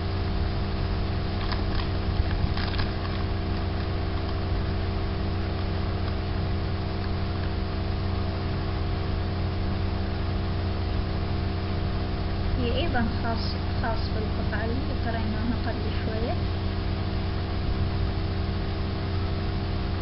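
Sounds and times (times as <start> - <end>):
constant hiss: 0.0 - 20.0
steady machine hum: 0.0 - 20.0.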